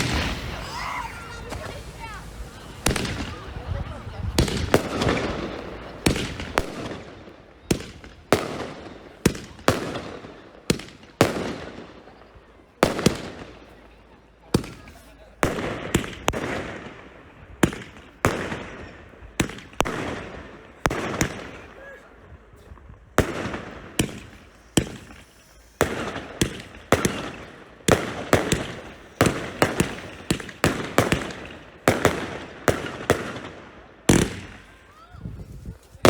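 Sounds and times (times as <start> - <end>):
firework cake bangs: 0.0 - 13.8, 14.5 - 34.8.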